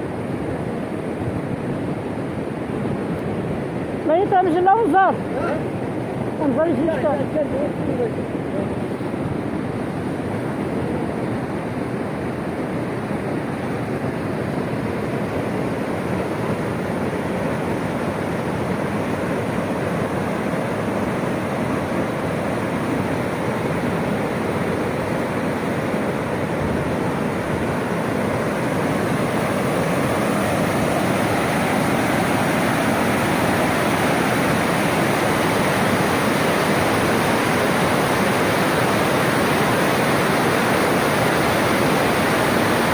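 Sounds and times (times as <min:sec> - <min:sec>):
floodwater rushing in a stream: 0:00.0 - 0:42.9.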